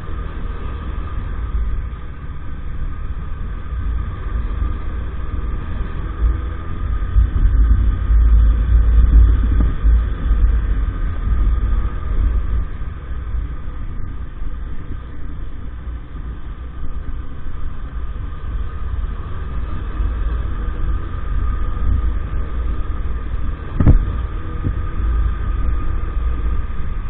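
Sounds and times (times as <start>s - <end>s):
small motorcycle engine running: 0.0s - 27.0s
wind rumble on microphone: 0.0s - 27.0s.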